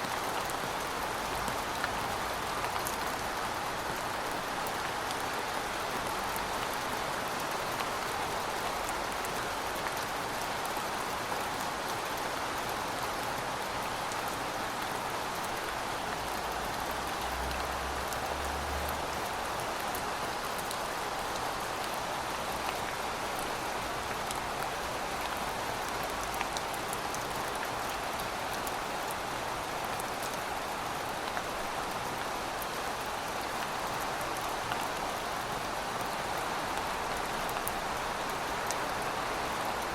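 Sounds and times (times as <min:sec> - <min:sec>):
rain falling on pavement: 0:00.0 - 0:39.9.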